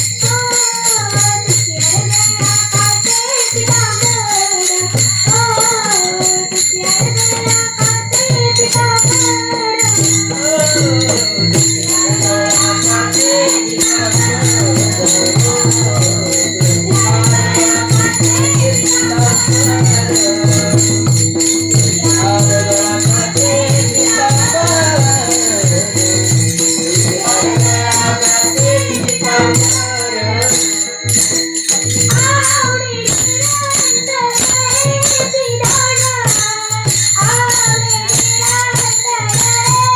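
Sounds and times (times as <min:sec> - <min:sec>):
drum beat: 0:00.0 - 0:39.9
metallic jingling percussion: 0:00.0 - 0:39.9
woman singing: 0:00.0 - 0:39.9.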